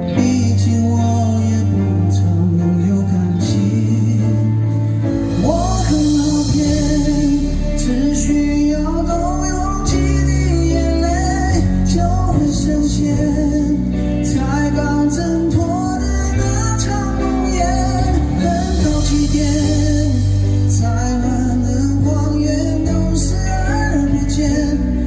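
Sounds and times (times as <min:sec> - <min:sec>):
live pop-rock band with singing: 0:00.0 - 0:25.0.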